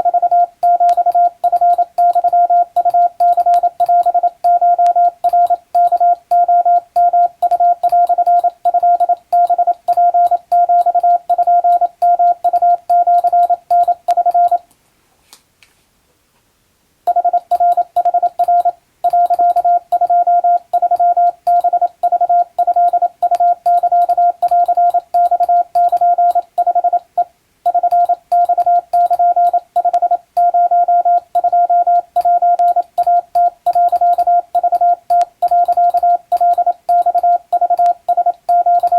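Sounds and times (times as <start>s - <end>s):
morse code beeps: 0.0s - 14.6s, 17.1s - 38.9s.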